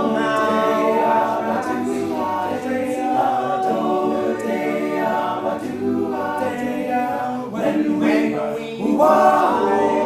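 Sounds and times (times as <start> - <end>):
a cappella choir singing chords: 0.0 - 10.0.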